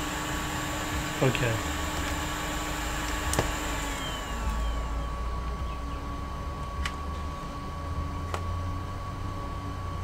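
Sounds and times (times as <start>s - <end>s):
electric equipment humming: 0.0s - 10.0s.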